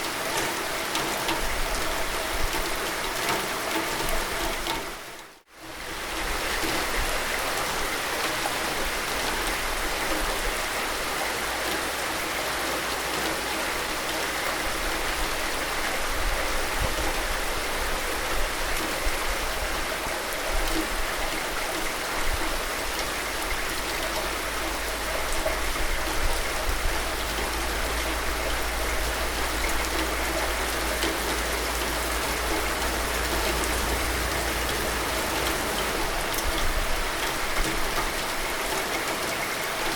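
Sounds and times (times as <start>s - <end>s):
heavy rain hissing: 5.8s - 39.9s.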